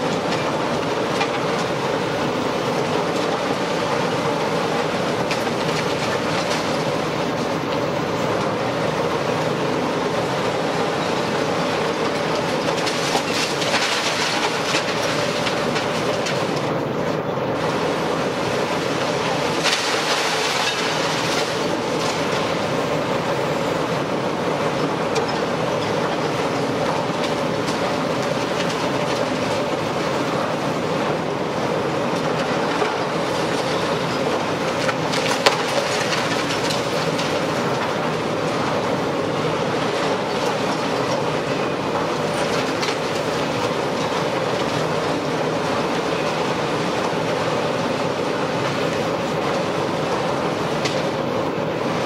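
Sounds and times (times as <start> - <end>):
excavator running under load: 0.0 - 52.0.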